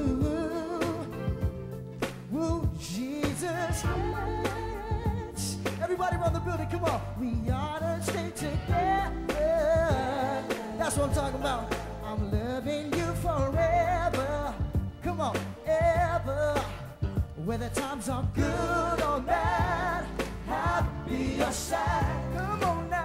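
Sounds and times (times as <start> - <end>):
man singing: 0.0 - 1.7, 2.3 - 23.0
bass line: 0.0 - 23.0.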